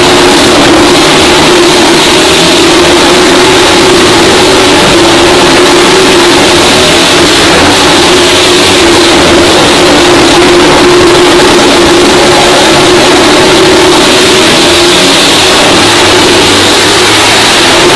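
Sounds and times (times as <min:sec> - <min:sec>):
motorcycle engines running loud: 0:00.0 - 0:17.9.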